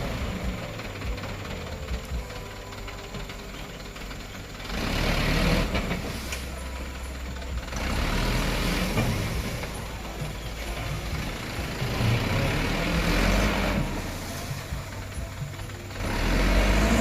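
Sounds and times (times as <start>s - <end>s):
dump truck engine rumbling: 0.0s - 17.0s.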